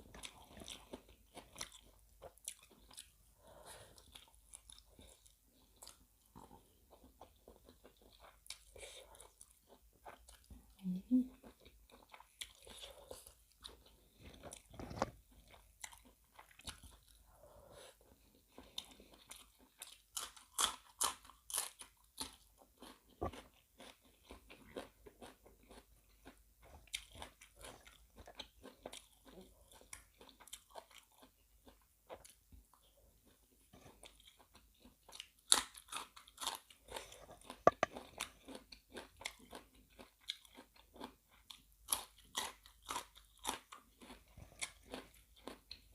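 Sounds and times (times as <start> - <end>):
chewing and biting: 0.0 - 10.8, 11.4 - 17.3, 17.9 - 45.9.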